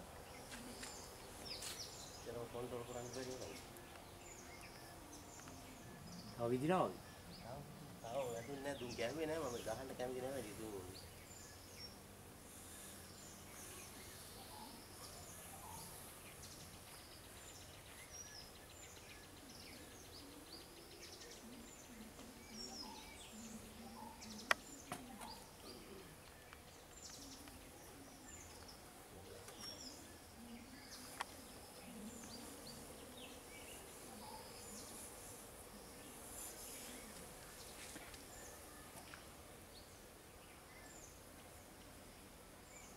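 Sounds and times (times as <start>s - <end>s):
birds chirping: 0.0s - 42.9s
faint insect hiss: 0.0s - 42.9s.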